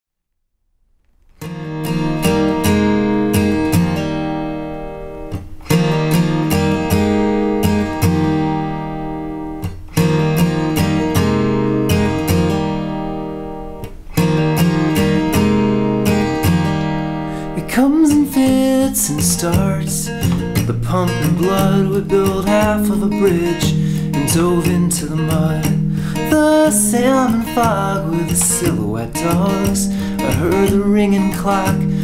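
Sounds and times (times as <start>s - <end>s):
acoustic guitar chords: 1.1s - 32.0s.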